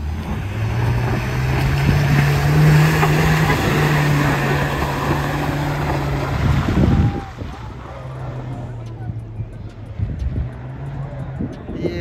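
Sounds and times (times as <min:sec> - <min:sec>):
engine droning under load: 0:00.0 - 0:11.8.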